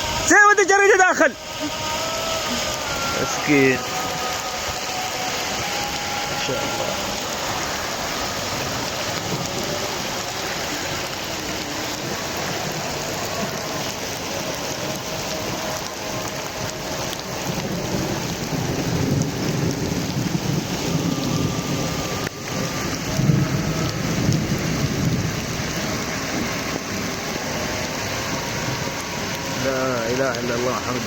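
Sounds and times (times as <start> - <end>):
heavy rain falling: 0.0 - 31.0
thunder rumbling: 0.0 - 31.0.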